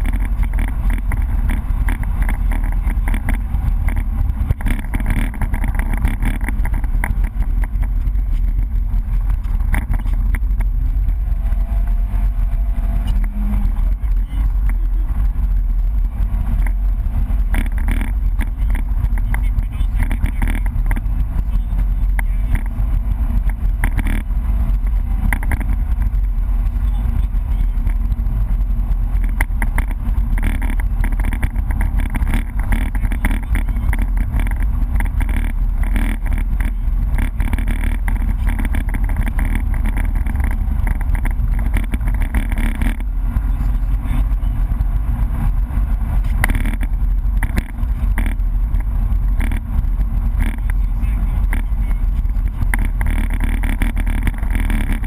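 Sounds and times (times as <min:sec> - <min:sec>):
car engine under load: 0:00.0 - 0:55.0
tyre and road noise: 0:00.0 - 0:55.0.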